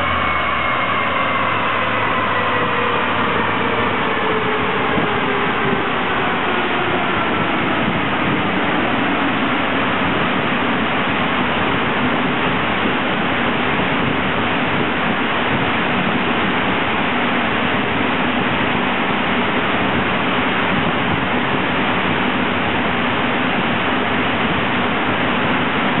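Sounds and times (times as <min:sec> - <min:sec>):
large cooling fans rushing: 0:00.0 - 0:26.0.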